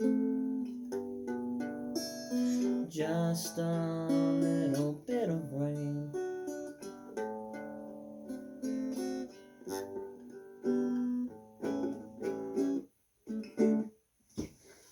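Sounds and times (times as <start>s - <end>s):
acoustic guitar strummed chords: 0.0s - 13.9s.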